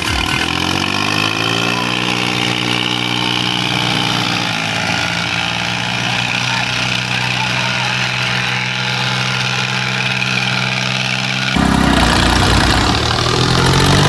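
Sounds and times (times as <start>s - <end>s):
diesel tractor engine: 0.0s - 14.0s.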